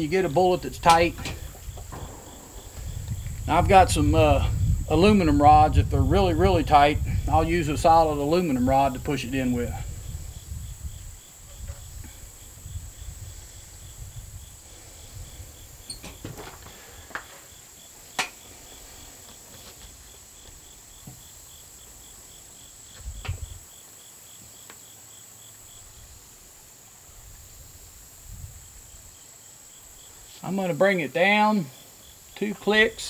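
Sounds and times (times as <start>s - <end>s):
crickets chirping: 0.0s - 33.0s
high insect whine: 0.0s - 33.0s.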